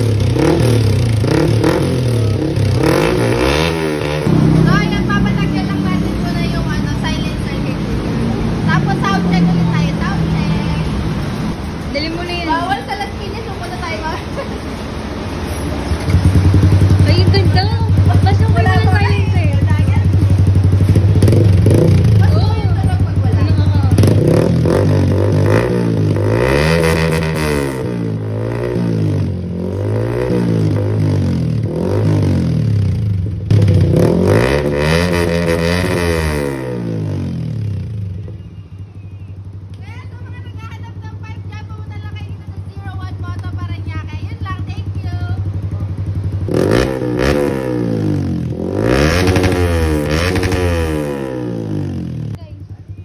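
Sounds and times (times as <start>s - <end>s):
motorcycle engine revving: 0.0s - 13.9s, 14.8s - 53.0s.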